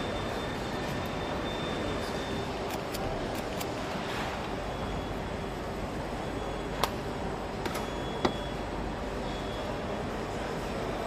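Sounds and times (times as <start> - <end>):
factory hall background noise: 0.0 - 11.0.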